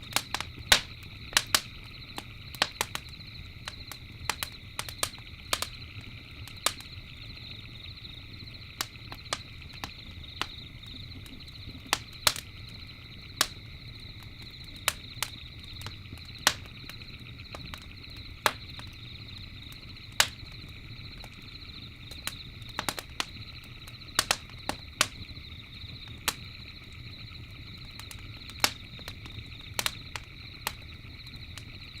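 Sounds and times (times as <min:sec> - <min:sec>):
campfire crackling: 0:00.0 - 0:32.0
night insects trilling: 0:00.0 - 0:32.0.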